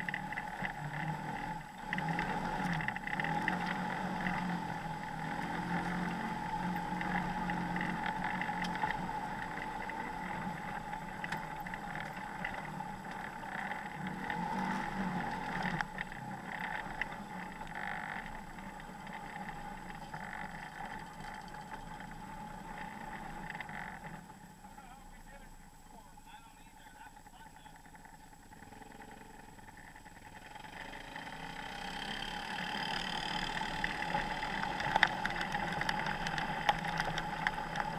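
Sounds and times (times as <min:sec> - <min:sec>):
off-road vehicle engine running: 0:00.0 - 0:37.9.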